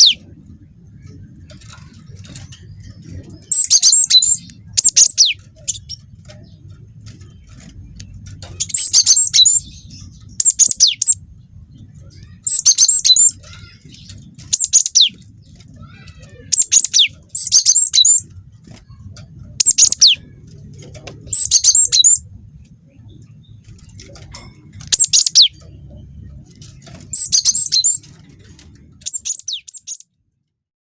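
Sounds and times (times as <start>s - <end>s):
faint low hum: 0.0s - 30.6s.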